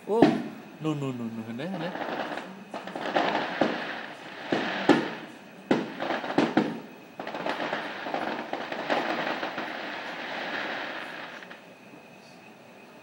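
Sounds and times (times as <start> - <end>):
firework bangs: 0.0 - 0.8, 1.6 - 11.6
many small firework bursts: 0.0 - 11.7.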